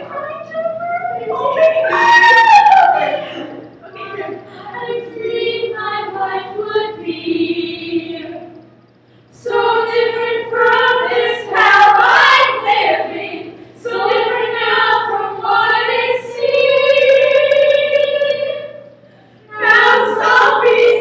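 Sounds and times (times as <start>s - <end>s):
women singing together: 0.0s - 8.6s, 9.4s - 21.0s.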